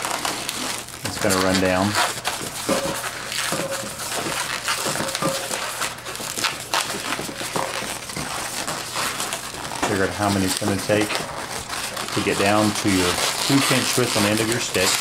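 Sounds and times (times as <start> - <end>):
balloon rubbing and squeaking: 0.0 - 15.0.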